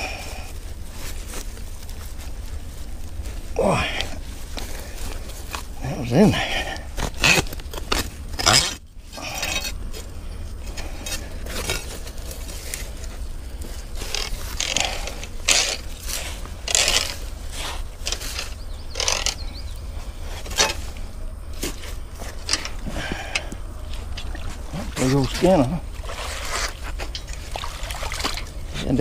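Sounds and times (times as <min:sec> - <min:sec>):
grass and brush rustling: 0:00.0 - 0:29.0.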